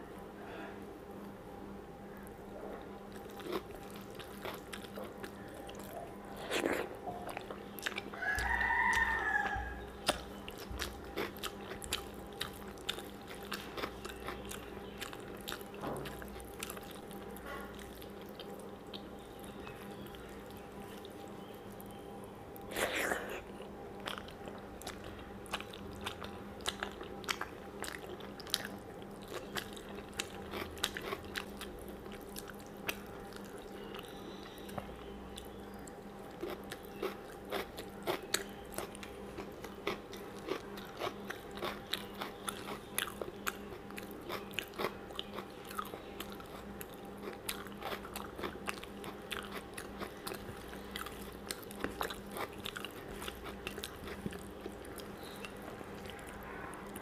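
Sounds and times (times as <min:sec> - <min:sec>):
faint steady hum: 0:00.0 - 0:57.0
chewing with wet mouth smacks: 0:02.2 - 0:22.0, 0:22.6 - 0:57.0.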